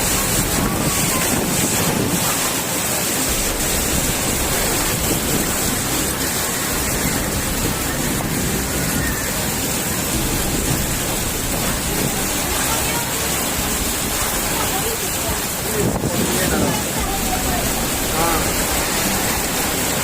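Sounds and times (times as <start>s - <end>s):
storm wind with rain: 0.0s - 20.0s.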